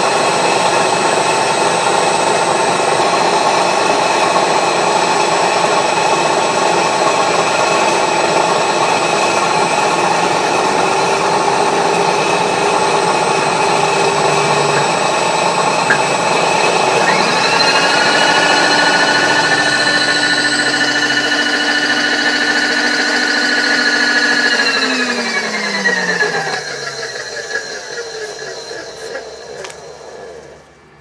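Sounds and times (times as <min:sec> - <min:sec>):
machine tool motor whine: 0:00.0 - 0:31.0.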